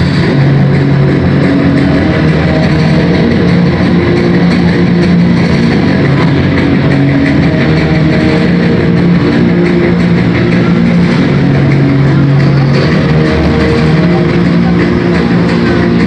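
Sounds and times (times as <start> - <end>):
loud rock music over loudspeakers: 0.0 - 16.0
monster truck engine running: 0.0 - 16.0.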